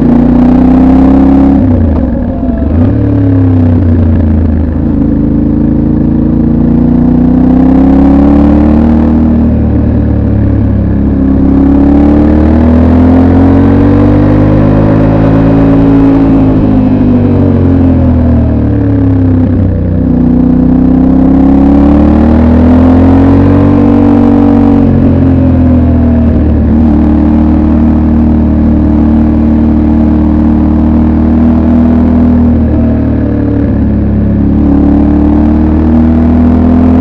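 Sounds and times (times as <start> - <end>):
motorcycle engine while riding: 0.0 - 37.0.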